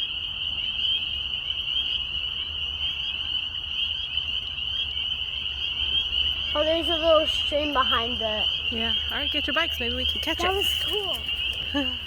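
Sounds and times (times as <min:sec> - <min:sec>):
chorus of frogs calling: 0:00.0 - 0:12.0.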